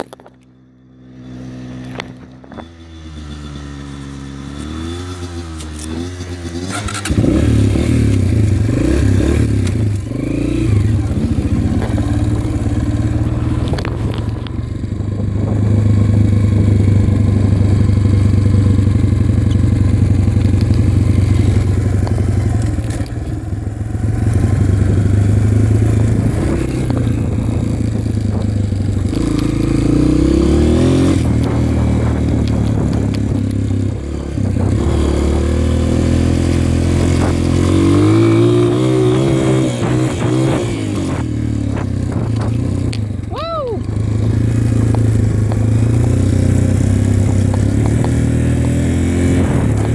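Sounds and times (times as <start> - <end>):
dirt bike engine revving: 1.0 - 49.9.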